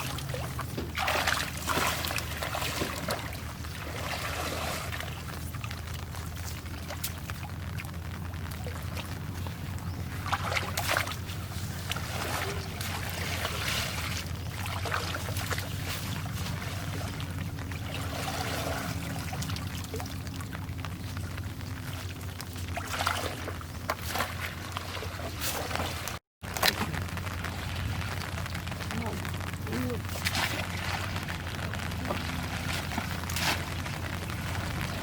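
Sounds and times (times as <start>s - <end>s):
steady low rumble: 0.0s - 35.0s
water splashing and pouring: 0.0s - 35.0s.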